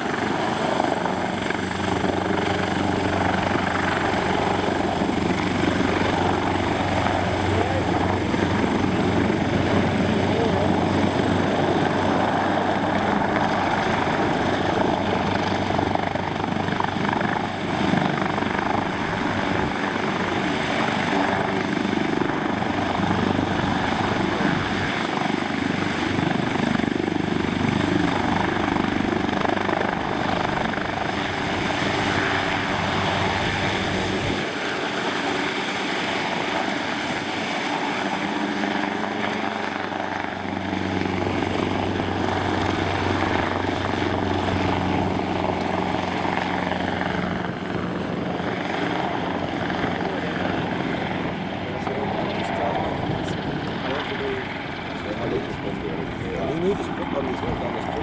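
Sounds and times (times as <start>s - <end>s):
helicopter running: 0.0s - 58.0s.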